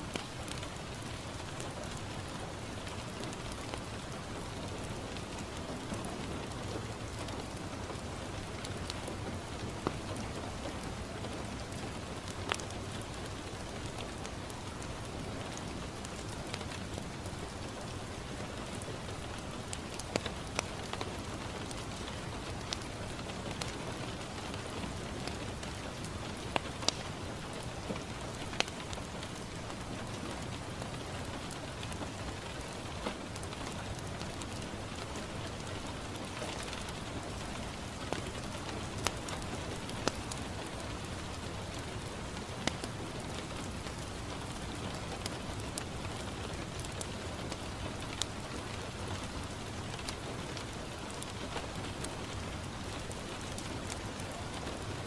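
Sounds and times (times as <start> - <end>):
rain falling on a window: 0.0 - 55.0
wood fire crackling and popping: 0.1 - 55.0.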